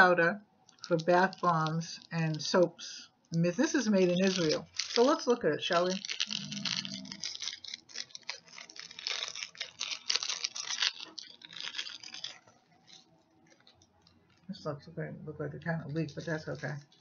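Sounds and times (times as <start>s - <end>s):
packaging rustling and tearing: 0.7s - 2.6s, 3.6s - 14.5s, 15.8s - 17.0s.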